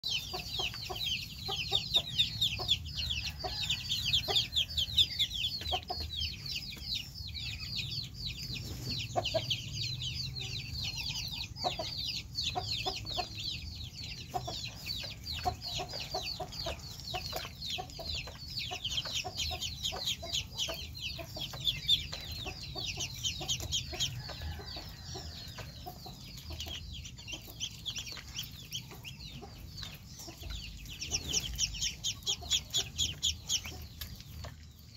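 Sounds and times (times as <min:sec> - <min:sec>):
ducklings peeping: 0:00.0 - 0:34.9.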